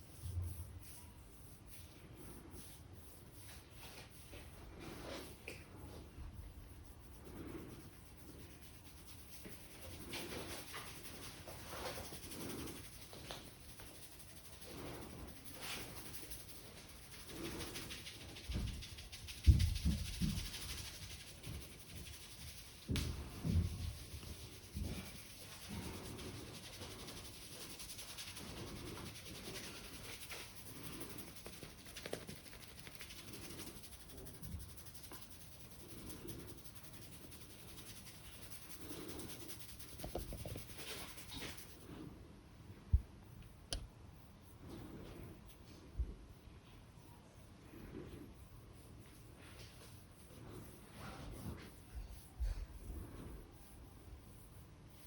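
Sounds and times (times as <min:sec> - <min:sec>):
hands rubbing and kneading scalp: 0:00.0 - 0:42.2, 0:43.4 - 0:46.0, 0:47.6 - 0:55.0.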